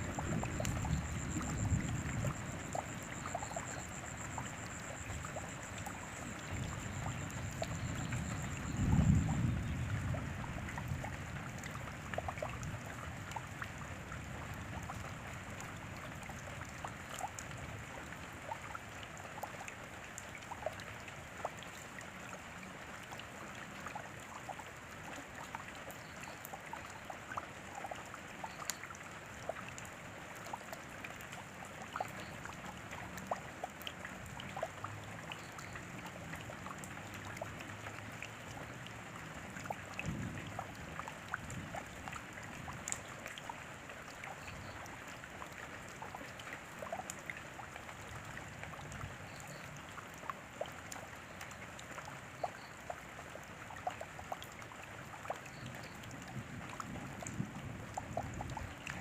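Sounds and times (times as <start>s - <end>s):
raindrops tapping and dripping: 0.0s - 59.0s.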